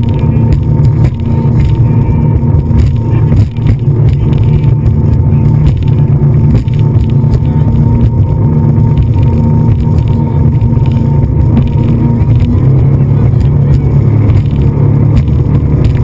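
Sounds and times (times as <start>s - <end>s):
motor rumbling: 0.0s - 16.0s
thin steady whine: 0.0s - 16.0s.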